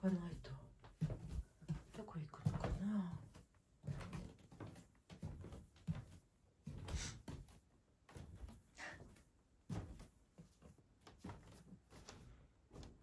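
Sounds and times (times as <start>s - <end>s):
footsteps on wooden stairs: 0.0s - 13.0s.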